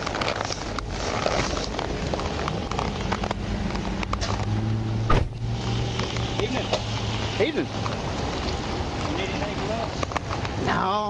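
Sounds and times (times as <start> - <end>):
rough noise: 0.0 - 10.6
vehicle engine humming: 0.0 - 11.0.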